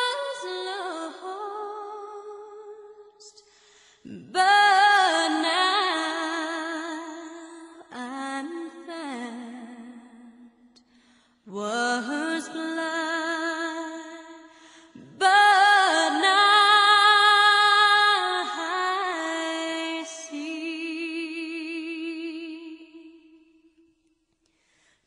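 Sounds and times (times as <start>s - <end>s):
woman singing with vibrato: 0.0s - 3.4s, 4.0s - 10.7s, 11.5s - 23.8s.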